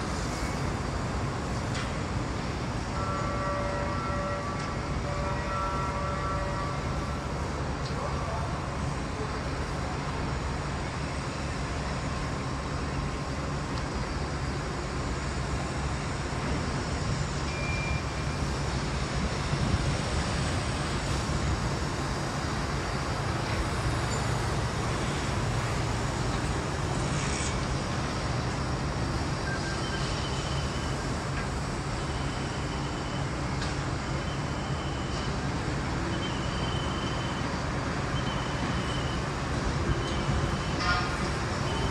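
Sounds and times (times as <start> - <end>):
city traffic engine hum: 0.0 - 41.9.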